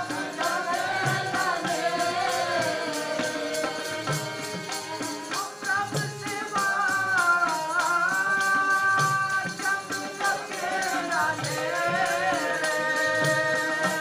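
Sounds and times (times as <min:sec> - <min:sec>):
harmonium: 0:00.0 - 0:14.0
man singing: 0:00.0 - 0:14.0
tabla beat: 0:00.0 - 0:14.0.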